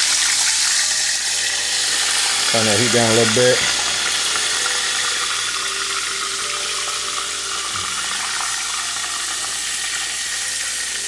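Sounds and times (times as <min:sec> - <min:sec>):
chicken frying with sizzle: 0:00.0 - 0:11.0.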